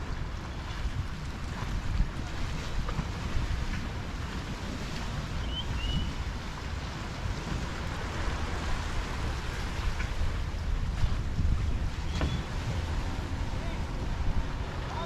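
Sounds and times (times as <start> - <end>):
waves washing on beach: 0.0 - 15.0
wind rumble on microphone: 0.0 - 15.0.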